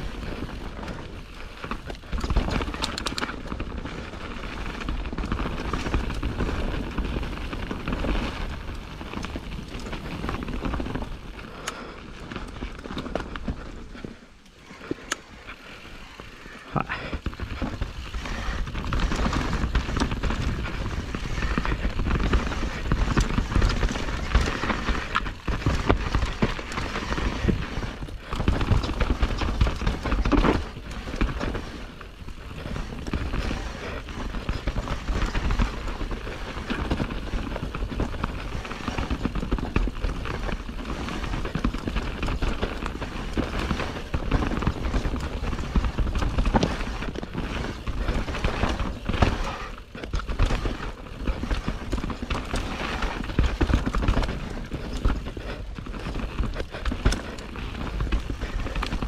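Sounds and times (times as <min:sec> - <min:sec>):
mountain bike rattling: 0:00.0 - 0:59.0
tyre noise on dirt: 0:00.0 - 0:59.0.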